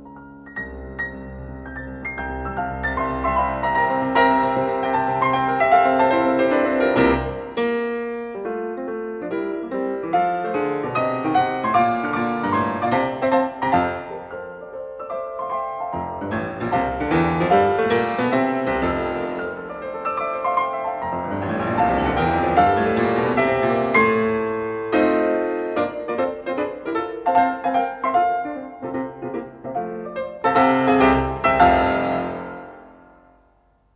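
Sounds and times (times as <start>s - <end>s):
piano music: 0.0s - 33.9s.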